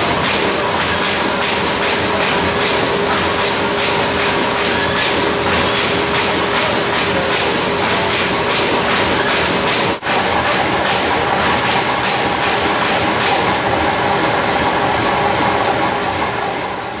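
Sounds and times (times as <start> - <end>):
machine clatter: 0.0 - 17.0
steady machine hum: 0.0 - 17.0.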